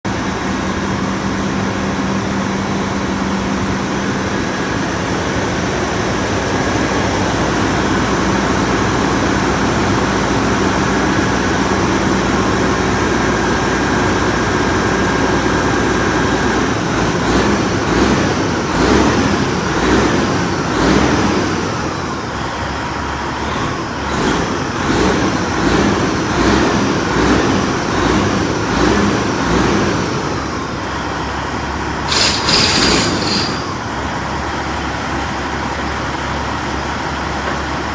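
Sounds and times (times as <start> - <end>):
truck diesel engine running: 0.1 - 37.9.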